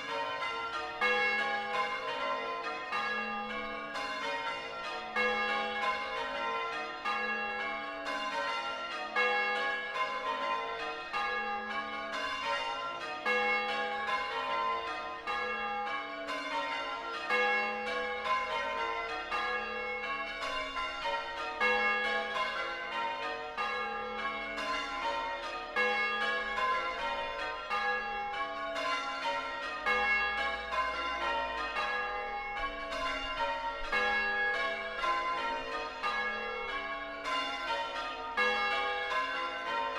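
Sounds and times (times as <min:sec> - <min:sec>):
church bells ringing changes: 0:00.0 - 0:39.9.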